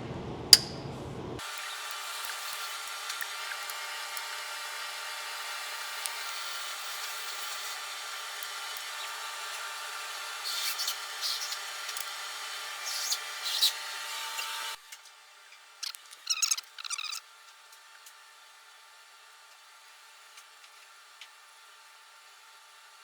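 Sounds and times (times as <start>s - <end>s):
whirring drone with high tones: 0.0s - 23.0s.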